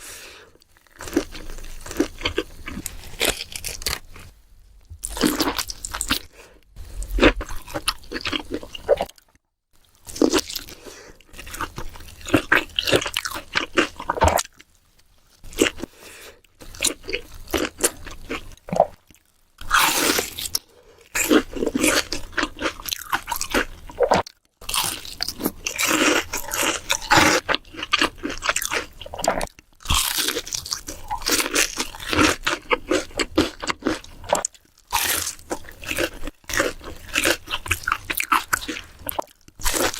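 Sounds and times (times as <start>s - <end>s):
crunchy bites and chewing: 0.6s - 14.7s, 16.6s - 39.9s.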